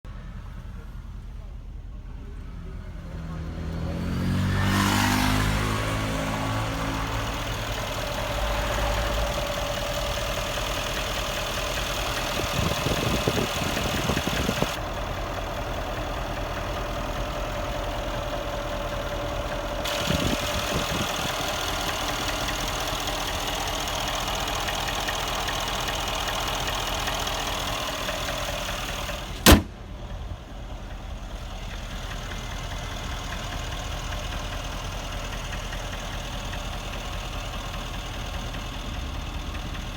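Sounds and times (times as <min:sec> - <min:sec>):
car engine idling with ticking: 0:05.6 - 0:39.9.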